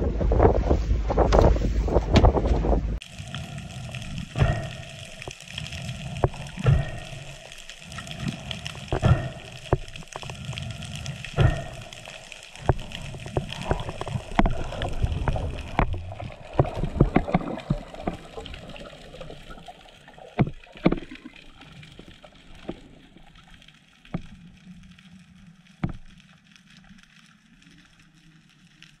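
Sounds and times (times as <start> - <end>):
water rushing underwater: 0.0 - 28.8.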